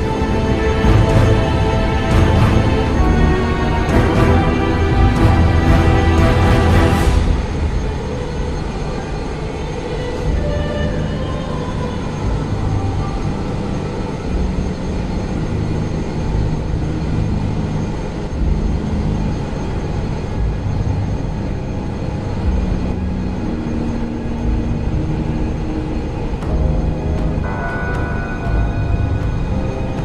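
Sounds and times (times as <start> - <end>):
engine room machinery drone: 0.0 - 30.0
faint steady tones: 0.0 - 30.0.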